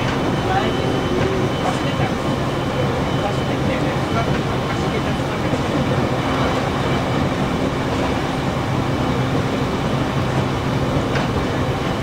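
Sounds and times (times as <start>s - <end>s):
low drone: 0.0s - 10.0s
train wheels rumbling on track: 0.0s - 12.0s.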